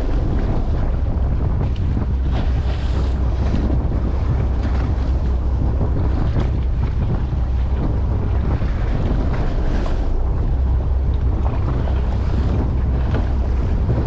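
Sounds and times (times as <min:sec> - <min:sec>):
water noise: 0:00.0 - 0:14.0
wind buffeting microphone: 0:00.0 - 0:14.0.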